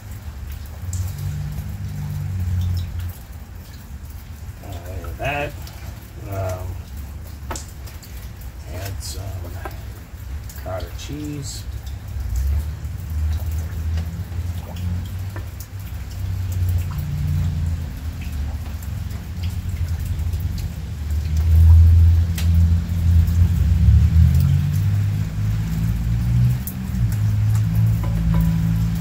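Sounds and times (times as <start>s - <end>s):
heavy rain: 0.0s - 29.0s
low uneven rumble: 0.0s - 29.0s
raindrops ticking: 0.0s - 29.0s.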